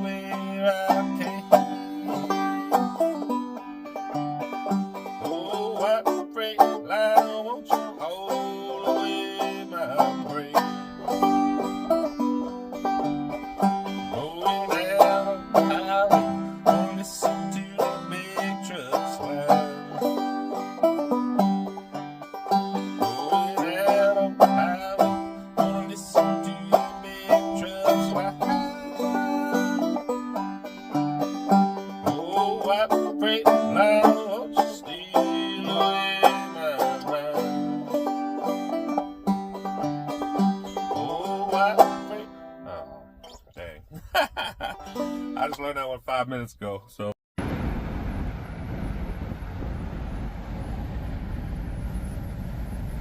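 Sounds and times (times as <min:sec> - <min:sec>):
banjo played clawhammer style: 0:00.0 - 0:43.4, 0:44.6 - 0:45.7.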